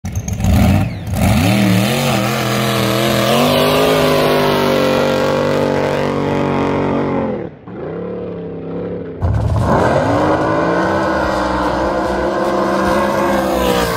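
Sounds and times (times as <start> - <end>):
engine revving: 0.1 - 13.9.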